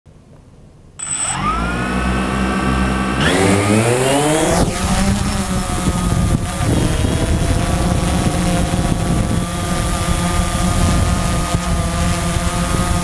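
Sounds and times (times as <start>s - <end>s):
drone propellers whining: 1.0s - 13.0s.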